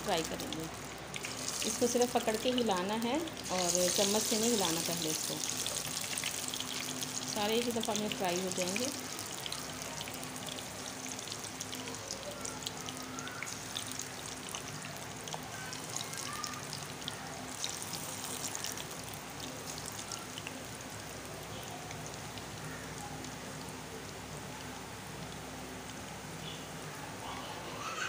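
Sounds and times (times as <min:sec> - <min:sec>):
food frying in hot oil: 0:00.0 - 0:27.2.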